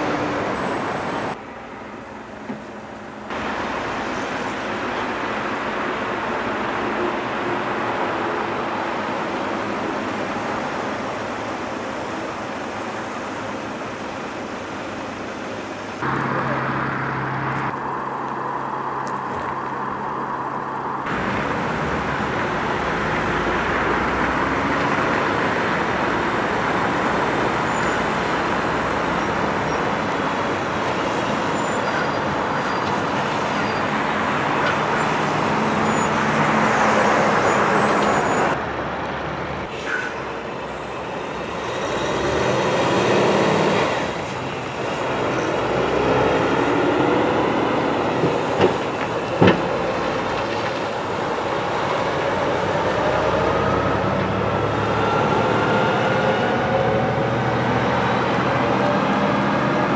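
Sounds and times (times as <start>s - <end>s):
log truck engine and tyres: 0.0s - 59.9s.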